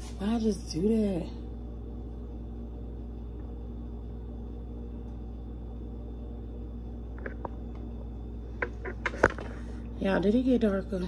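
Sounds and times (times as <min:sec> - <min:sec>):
steady hum with held tones: 0:00.0 - 0:11.0.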